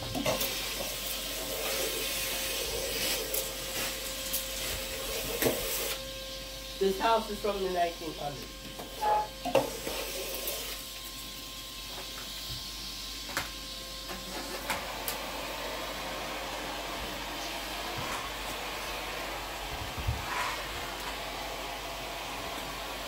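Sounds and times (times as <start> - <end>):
shop vac running: 0.0 - 23.0.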